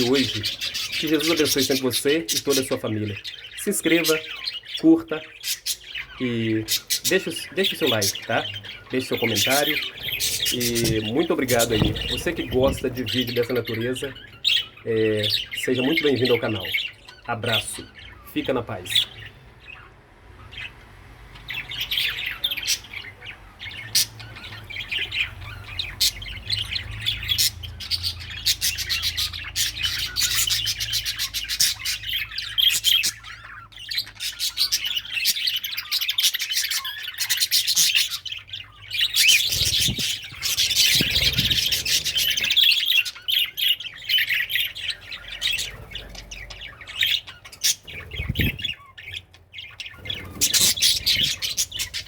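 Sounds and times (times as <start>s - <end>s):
birds chattering and squawking: 0.0s - 52.0s.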